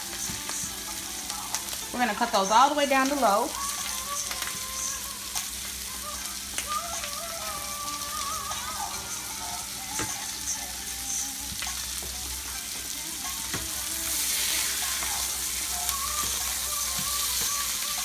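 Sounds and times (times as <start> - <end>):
steak and potatoes sizzling: 0.0 - 18.0.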